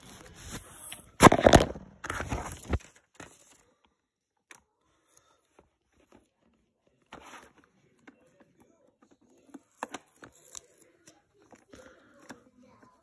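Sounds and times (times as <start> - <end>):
rustling and crinkling handling: 0.0 - 4.0, 5.2 - 13.0.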